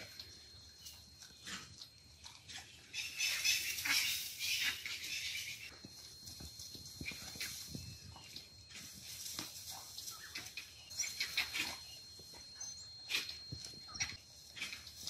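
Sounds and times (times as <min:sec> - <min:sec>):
wild dogs twittering and yelping: 0:00.0 - 0:15.0.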